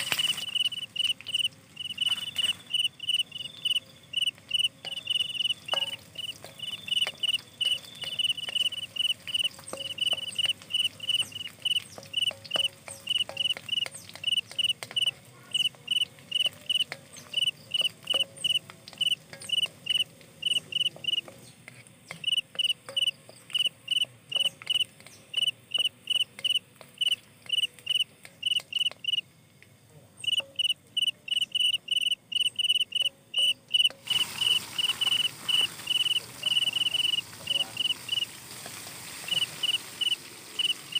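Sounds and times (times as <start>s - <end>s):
cricket chirping: 0.0s - 21.2s, 22.1s - 29.4s, 30.2s - 38.3s, 39.3s - 40.9s.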